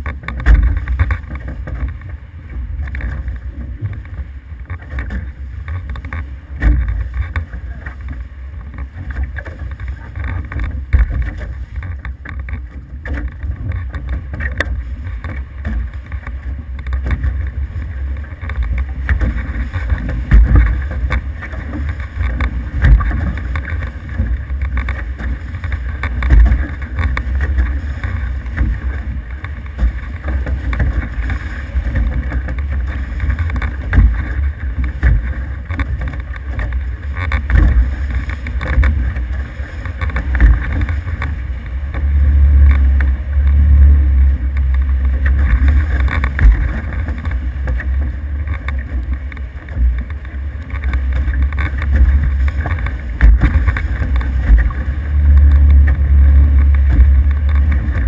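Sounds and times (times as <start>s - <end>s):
water rushing past hulls: 0.0s - 58.0s
wind buffeting microphone: 0.0s - 58.0s.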